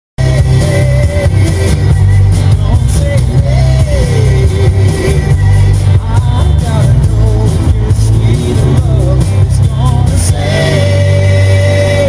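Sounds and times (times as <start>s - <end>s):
rock music with heavy bass: 0.2s - 12.0s.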